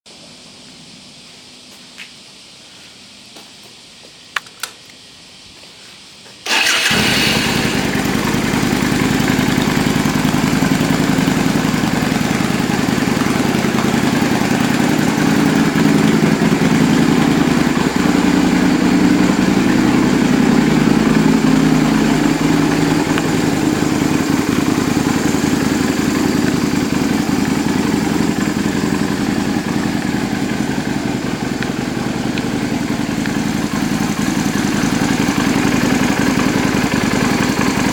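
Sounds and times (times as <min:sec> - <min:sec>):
motorcycle engine idling: 0:06.5 - 0:37.9.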